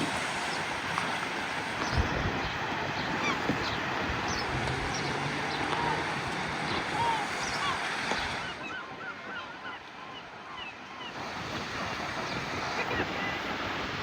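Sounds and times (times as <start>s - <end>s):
bird calls: 0.0s - 11.3s
sea surf: 0.0s - 14.0s.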